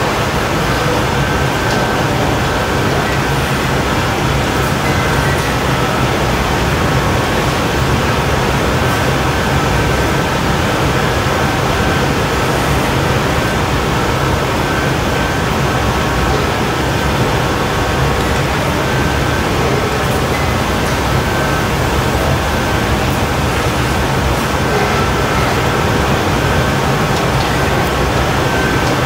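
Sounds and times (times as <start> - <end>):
furnace and burners roaring: 0.0 - 29.0.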